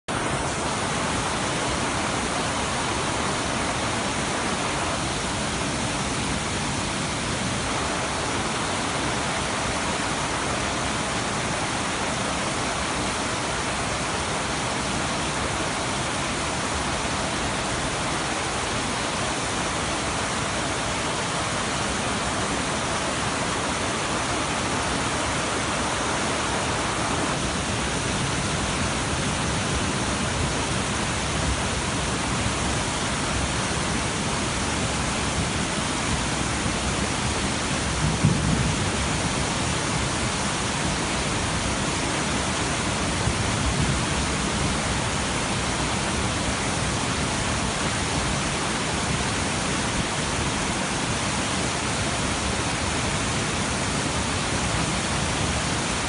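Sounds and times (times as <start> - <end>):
floodwater rushing: 0.1 - 56.0
torrential rain: 0.1 - 56.0.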